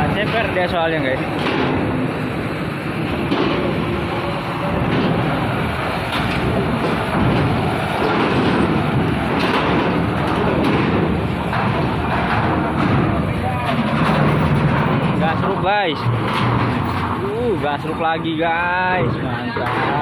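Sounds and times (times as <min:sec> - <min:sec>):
metal clanks: 0:00.0 - 0:20.0
trailer rolling over steel ramp: 0:00.0 - 0:20.0
truck diesel engine under load: 0:00.0 - 0:20.0.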